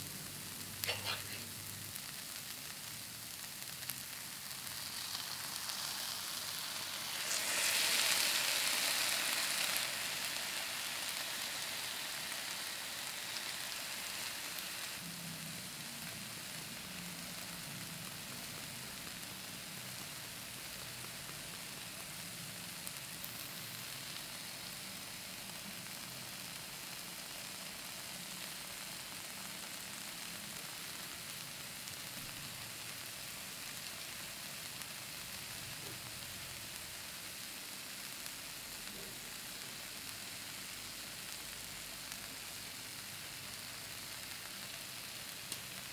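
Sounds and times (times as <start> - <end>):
tomatoes sizzling in a frying pan: 0.0 - 45.9.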